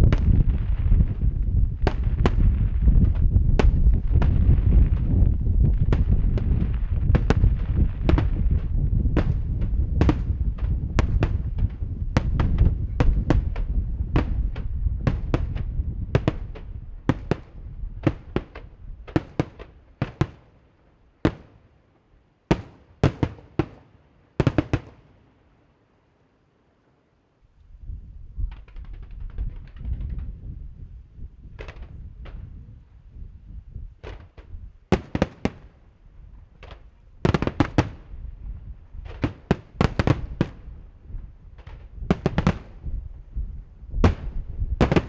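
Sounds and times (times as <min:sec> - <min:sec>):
fireworks booming and crackling: 0:00.0 - 0:20.6, 0:21.2 - 0:21.6, 0:22.5 - 0:25.2, 0:28.4 - 0:32.7, 0:33.8 - 0:45.0.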